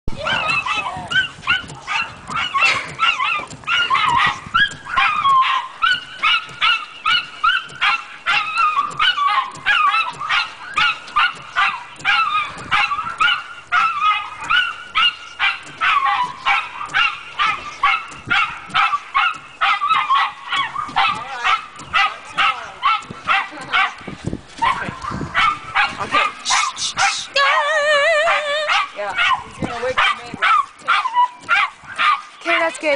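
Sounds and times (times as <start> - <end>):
dog barking rapidly: 0.2 - 27.7, 28.3 - 32.9.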